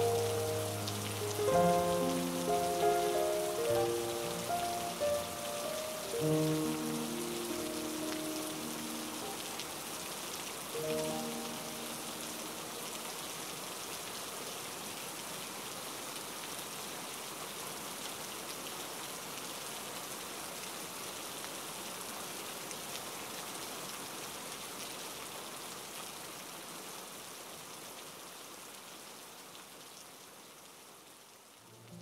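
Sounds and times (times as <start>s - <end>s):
steady rain on foliage: 0.0s - 32.0s.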